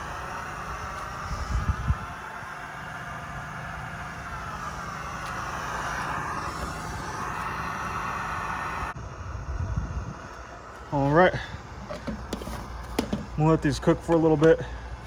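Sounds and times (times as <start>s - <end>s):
camp stove burner hissing: 0.0s - 15.0s.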